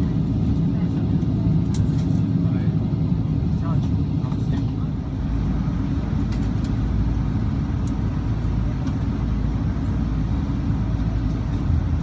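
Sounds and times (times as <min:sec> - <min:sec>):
low rumble in airplane cabin: 0:00.0 - 0:12.0.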